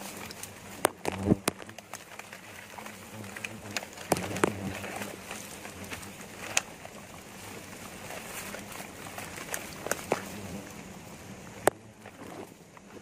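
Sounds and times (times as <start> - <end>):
dry grass rustling: 0.0 - 13.0.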